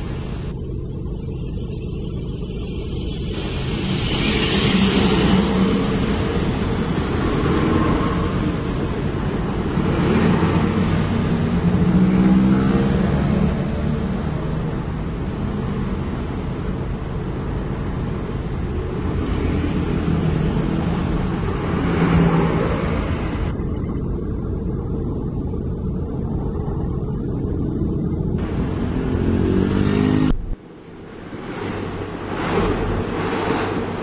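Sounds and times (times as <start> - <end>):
road and wind noise: 0.0 - 1.5, 2.1 - 34.0
truck engine running: 0.0 - 34.0.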